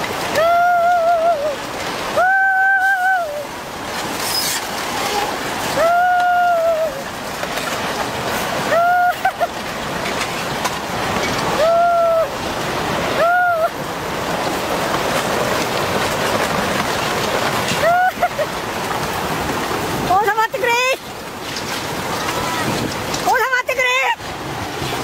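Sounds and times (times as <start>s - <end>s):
floodwater rushing with debris: 0.0s - 25.0s.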